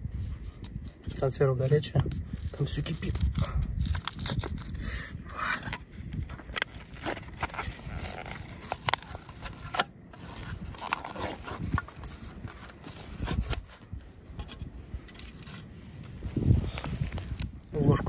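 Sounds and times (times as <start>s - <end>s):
wind rumbling on microphone: 0.0s - 18.0s
foil lid crinkling and scraping: 0.3s - 18.0s.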